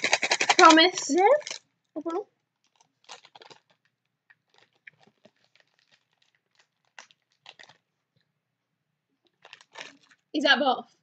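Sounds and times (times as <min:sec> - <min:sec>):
candy box crinkling and clicking: 0:00.0 - 0:07.9, 0:09.3 - 0:10.3.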